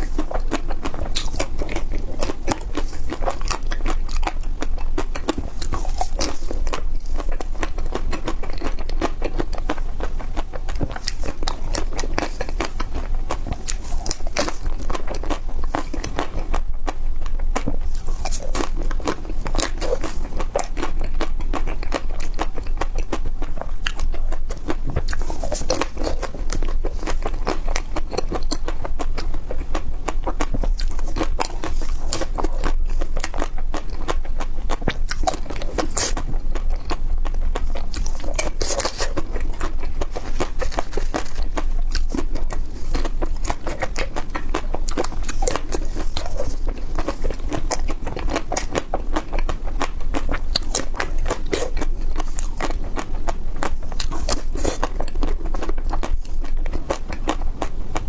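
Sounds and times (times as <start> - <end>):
crunchy chewing: 0.0 - 58.0
steady low hum: 0.0 - 58.0.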